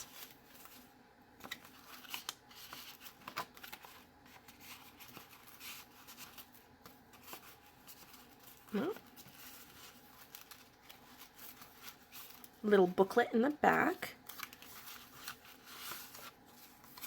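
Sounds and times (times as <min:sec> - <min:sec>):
paper rustling: 0:00.0 - 0:13.2, 0:14.1 - 0:17.0.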